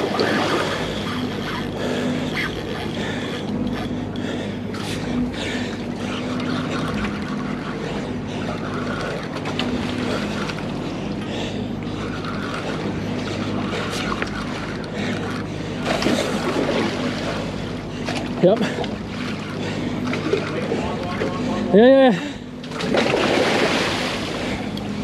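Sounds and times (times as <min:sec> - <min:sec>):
boat engine droning: 0:00.0 - 0:25.0
fishing reel whirring: 0:00.0 - 0:25.0
water noise: 0:00.0 - 0:25.0
wind: 0:00.0 - 0:25.0.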